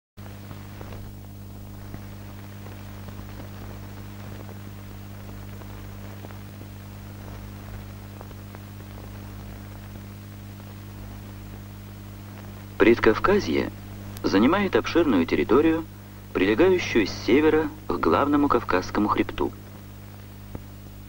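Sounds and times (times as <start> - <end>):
crackle and ticks: 0.2 - 16.3, 17.6 - 21.0
constant hiss: 0.2 - 21.0
low hum: 0.2 - 21.0.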